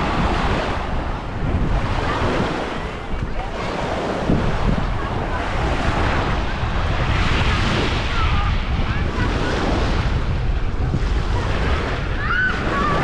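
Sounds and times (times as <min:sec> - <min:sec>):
surf on sandy shore: 0:00.0 - 0:13.0
wind buffeting microphone: 0:00.0 - 0:13.0.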